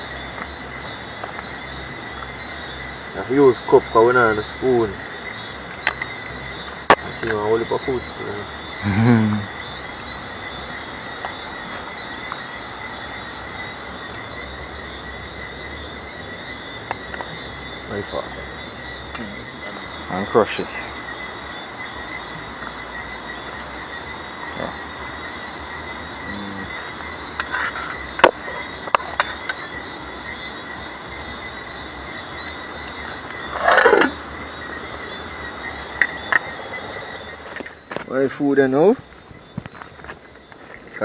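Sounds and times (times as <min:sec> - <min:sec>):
chorus of calling animals: 0:00.0 - 0:37.7
insects chirring: 0:00.0 - 0:41.0
outdoor background noise: 0:00.0 - 0:41.0.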